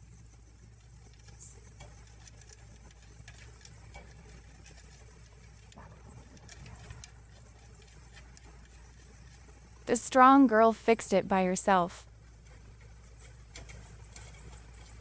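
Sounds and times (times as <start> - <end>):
low steady hum: 0.0 - 15.0
thin high-pitched whine: 0.0 - 15.0.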